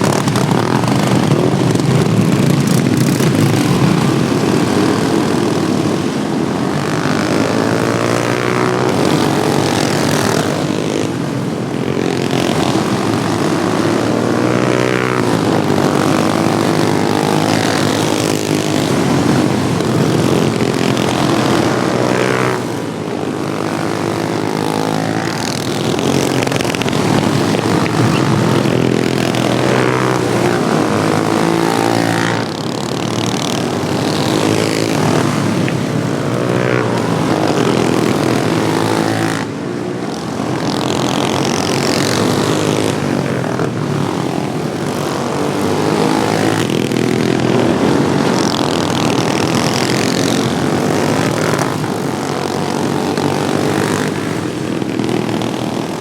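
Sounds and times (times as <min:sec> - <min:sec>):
racing lawnmower engines revving: 0:00.0 - 0:56.0.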